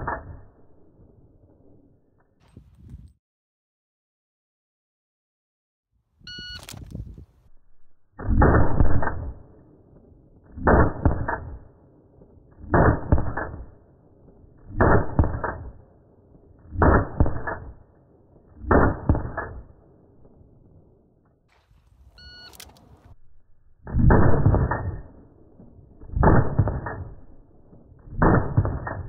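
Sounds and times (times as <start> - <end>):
slow motion pistol shots: 0.0 - 2.4, 7.4 - 21.9, 22.5 - 29.0.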